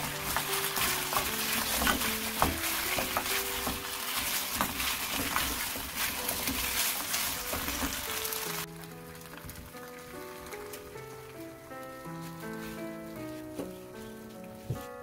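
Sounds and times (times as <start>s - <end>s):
ribs sizzling in a frying pan: 0.0s - 13.1s
spatula stirring: 0.0s - 15.0s.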